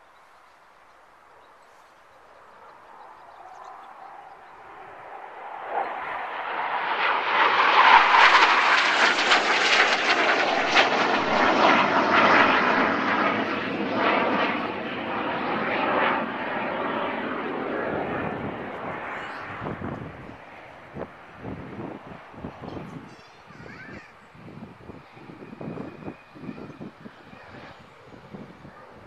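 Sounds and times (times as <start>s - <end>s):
jet engine passing overhead: 0.0s - 29.0s.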